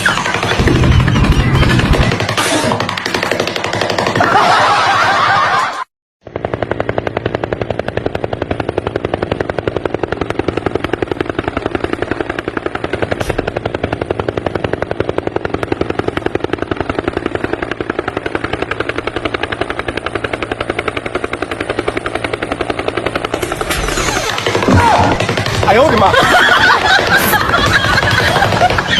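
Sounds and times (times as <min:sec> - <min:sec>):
helicopter rotor chopping: 0:00.0 - 0:28.9.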